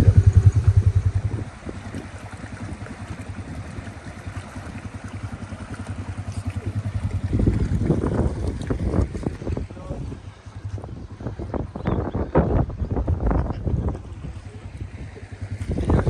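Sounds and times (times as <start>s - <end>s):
vehicle engine running: 0.0s - 11.5s, 13.8s - 16.0s.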